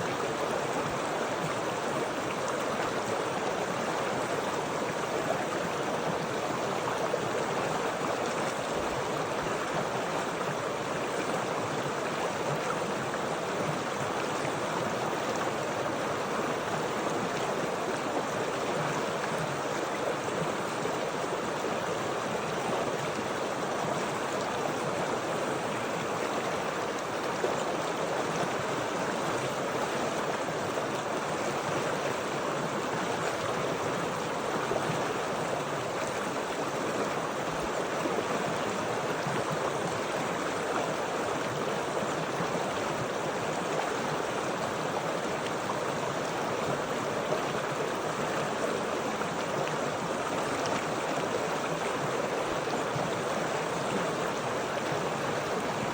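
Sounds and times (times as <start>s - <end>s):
stream water rushing over rocks: 0.0s - 55.9s.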